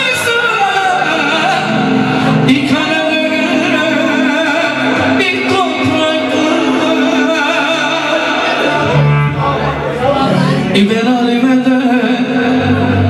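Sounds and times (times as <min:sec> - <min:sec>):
man singing into microphone: 0:00.0 - 0:13.0.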